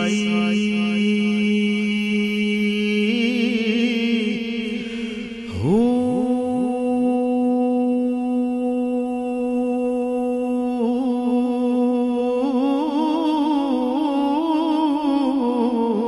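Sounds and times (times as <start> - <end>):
hummed drone chant: 0.0 - 16.0.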